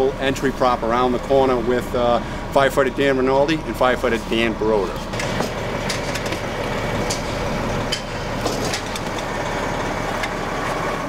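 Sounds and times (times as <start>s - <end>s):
fire engine idling: 0.0s - 11.0s.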